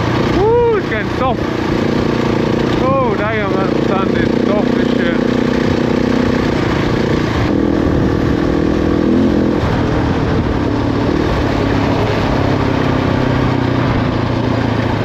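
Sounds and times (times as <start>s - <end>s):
motorcycle engine under load: 0.0s - 15.0s.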